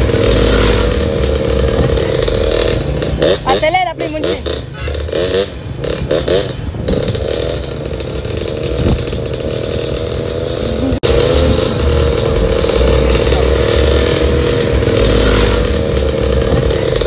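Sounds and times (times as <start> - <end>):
small motorcycle engines running: 0.0 - 17.0.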